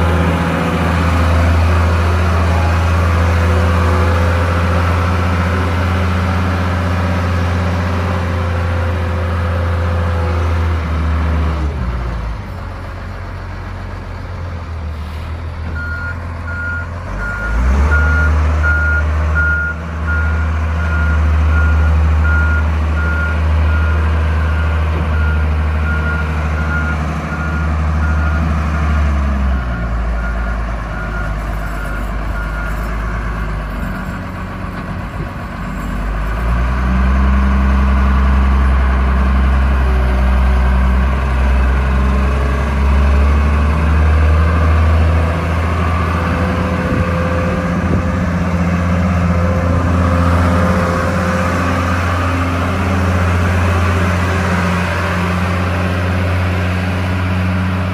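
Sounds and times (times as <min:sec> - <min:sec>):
wheel loader diesel engine: 0:00.0 - 0:57.9.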